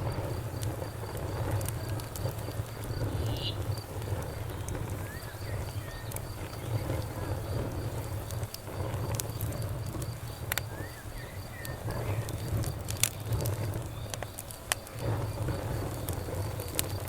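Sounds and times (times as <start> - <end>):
campfire crackling and popping: 0.0 - 17.0
cricket chirping: 0.0 - 17.0
low steady rumble: 0.0 - 17.0.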